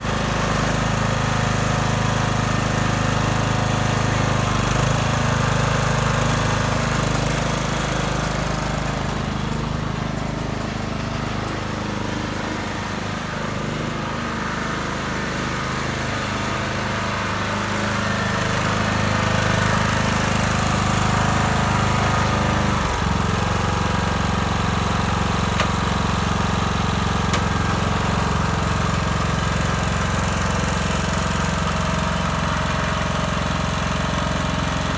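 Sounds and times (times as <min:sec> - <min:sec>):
lawnmower engine running: 0:00.0 - 0:34.9.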